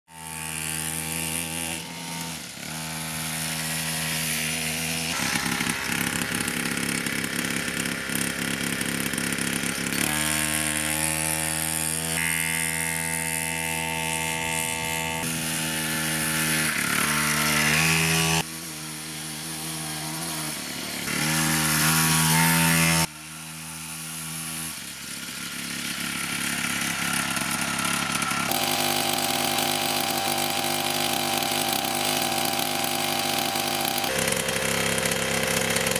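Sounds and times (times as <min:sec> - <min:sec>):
minibike engine revving: 0:00.1 - 0:35.9.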